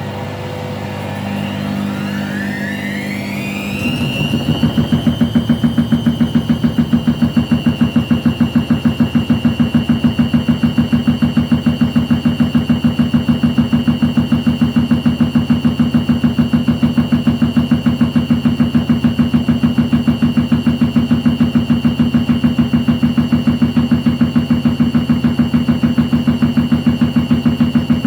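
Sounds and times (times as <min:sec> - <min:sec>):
steady high whine: 0:00.0 - 0:28.0
washing machine pulsing hum: 0:00.0 - 0:28.0.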